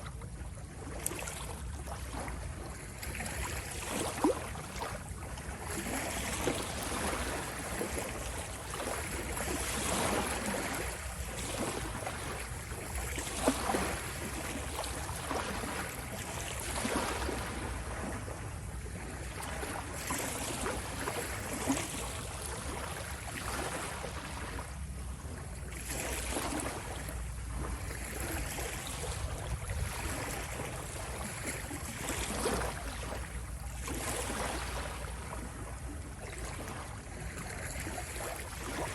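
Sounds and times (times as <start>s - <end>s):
ocean waves washing in: 5.7s - 38.9s.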